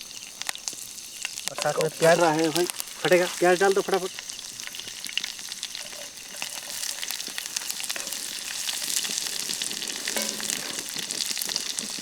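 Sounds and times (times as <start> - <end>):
hot oil sizzling and popping: 0.0 - 12.0.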